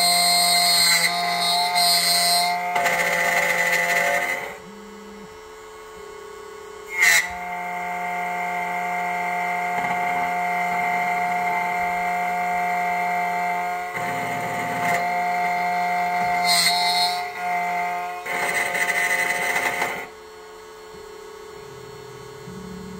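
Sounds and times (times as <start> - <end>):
key cutting machine motor whining: 0.0 - 5.3, 7.0 - 22.9.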